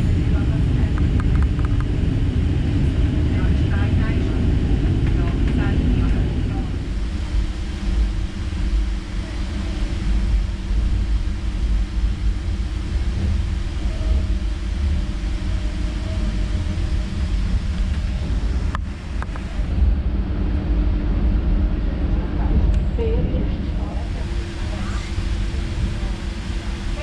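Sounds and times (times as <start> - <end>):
electric train rumbling: 0.0 - 27.0
faint hum: 0.0 - 27.0.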